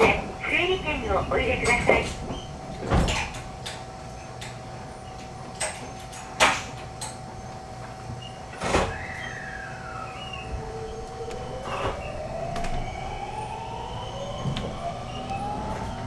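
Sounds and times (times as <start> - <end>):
steady electrical whine: 0.0 - 16.0.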